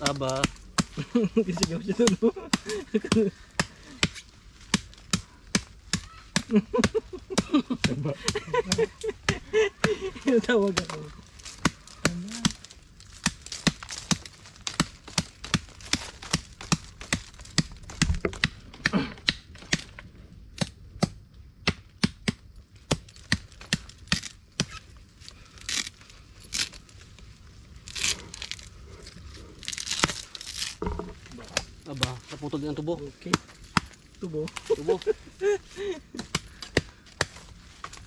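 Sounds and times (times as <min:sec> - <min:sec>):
vegetation cracking and rustling: 0:00.0 - 0:20.7, 0:22.7 - 0:38.0.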